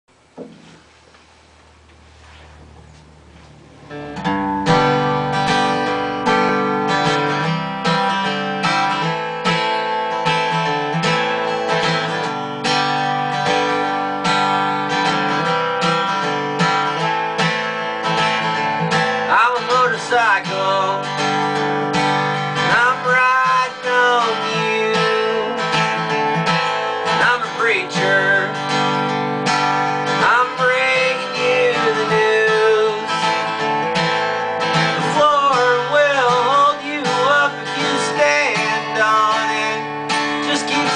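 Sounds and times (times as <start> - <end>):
acoustic guitar strumming: 2.3 - 40.9.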